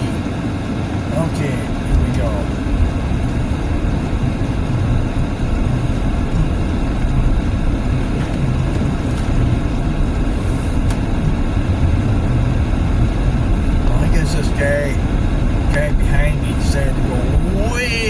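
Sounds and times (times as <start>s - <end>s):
car cabin road noise: 0.0s - 18.0s
tyres on snowy road: 0.0s - 18.0s.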